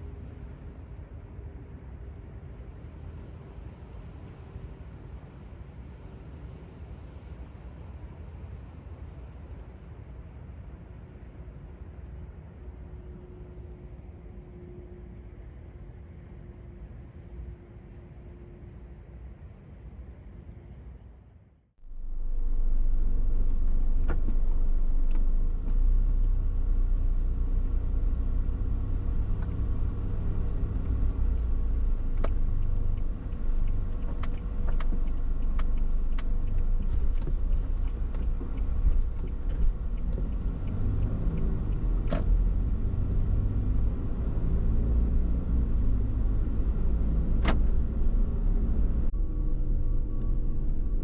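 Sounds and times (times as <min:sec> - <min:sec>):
van engine and road rumble: 0:00.0 - 0:20.0, 0:21.8 - 0:51.0.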